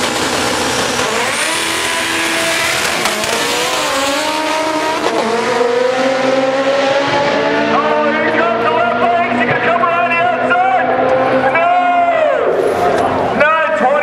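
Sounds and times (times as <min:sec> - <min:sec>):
drag racing cars accelerating: 0:00.0 - 0:14.0.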